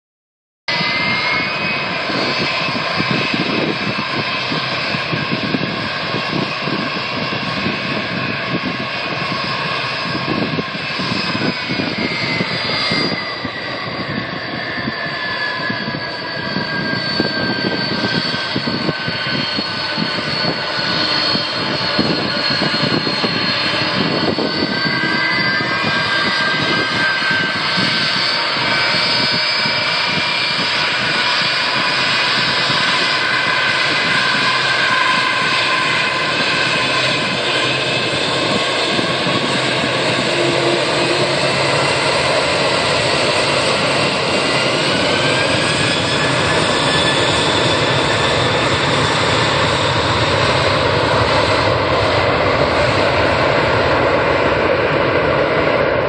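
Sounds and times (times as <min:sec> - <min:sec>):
jet engines whining: 0:00.7 - 0:56.0.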